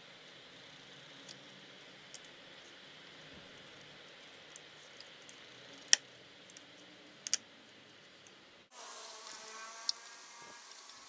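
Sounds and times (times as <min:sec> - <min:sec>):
faint steady buzz: 0:00.0 - 0:11.0.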